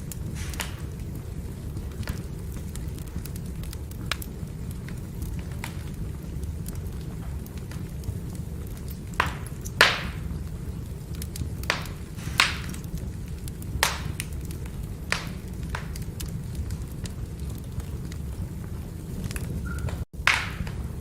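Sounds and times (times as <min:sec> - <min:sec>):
firewood burning and crackling: 0:00.0 - 0:21.0.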